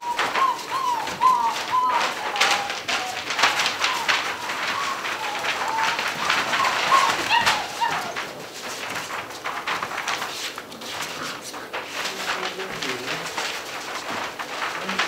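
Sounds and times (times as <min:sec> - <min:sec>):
paws scuffling on paper floor: 0:00.0 - 0:15.0
puppies whining: 0:00.0 - 0:15.0.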